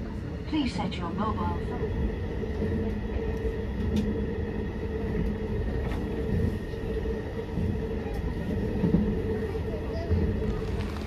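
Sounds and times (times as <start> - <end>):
constant hum: 0.0 - 11.0
train wheels rumbling: 0.0 - 11.0.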